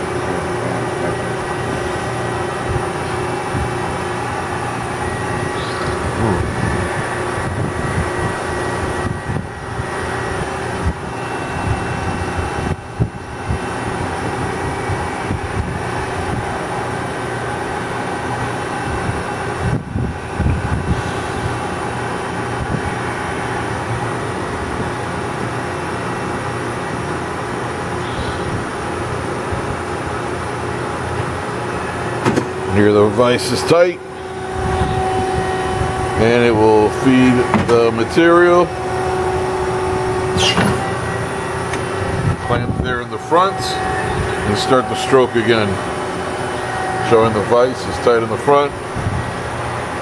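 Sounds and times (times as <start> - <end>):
bandsaw machine hum: 0.0 - 50.0.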